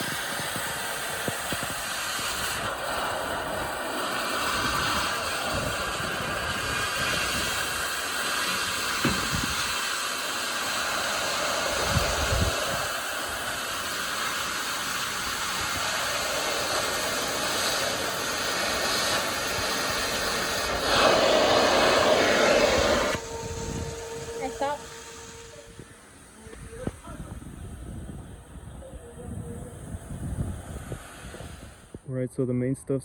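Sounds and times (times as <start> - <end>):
torch hissing cutting steel: 0.0 - 32.0.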